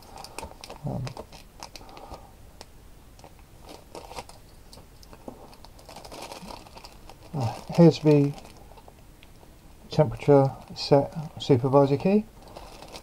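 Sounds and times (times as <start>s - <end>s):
plastic bag crinkling: 0.0s - 2.2s, 3.2s - 8.9s, 10.1s - 13.0s.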